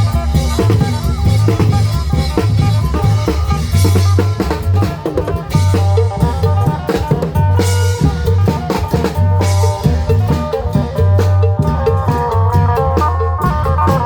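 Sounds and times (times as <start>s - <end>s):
live band with drums playing: 0.0s - 14.0s.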